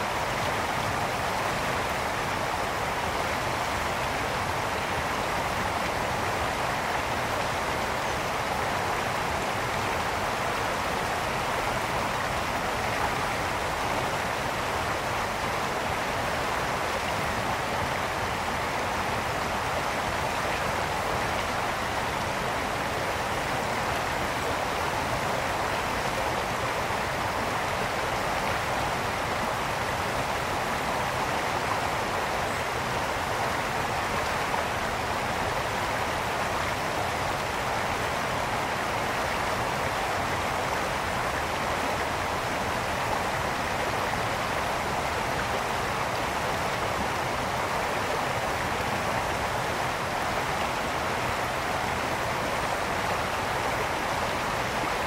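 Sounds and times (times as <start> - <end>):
brook water flowing and splashing: 0.0 - 55.0.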